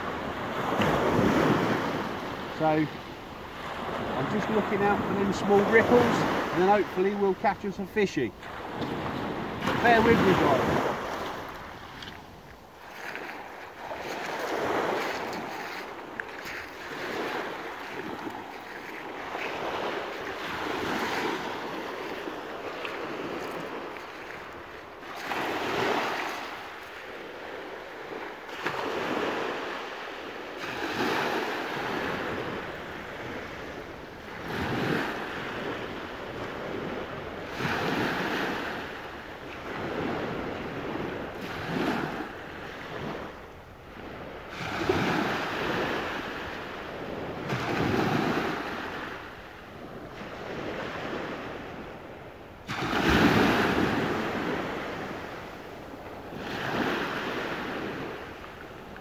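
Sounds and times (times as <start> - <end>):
small waves breaking on beach: 0.0 - 59.0.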